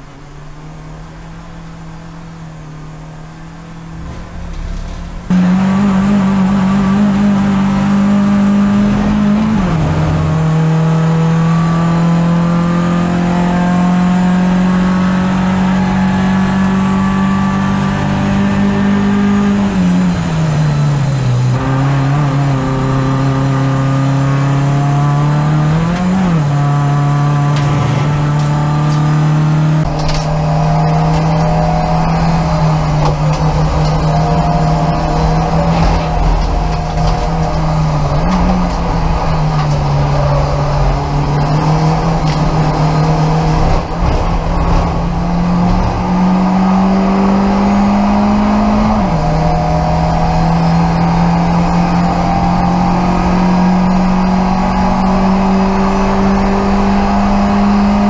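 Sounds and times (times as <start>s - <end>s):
race car engine revving: 0.0s - 58.0s
wind and tyre noise: 0.0s - 58.0s.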